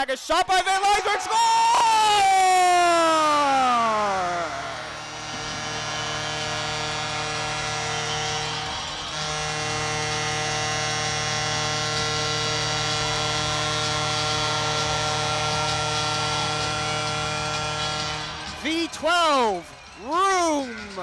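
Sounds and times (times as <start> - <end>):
arena goal horn: 2.6 - 21.0.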